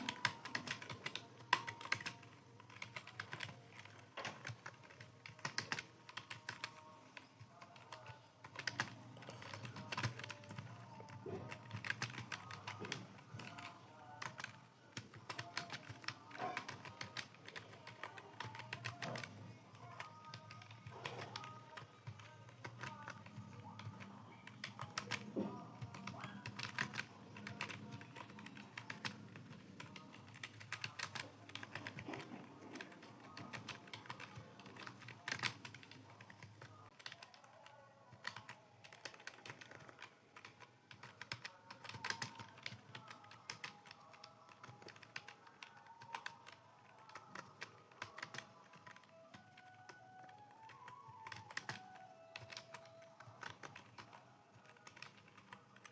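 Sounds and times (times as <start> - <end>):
faint background music: 0.0 - 55.9
keyboard typing clicks: 0.0 - 55.9.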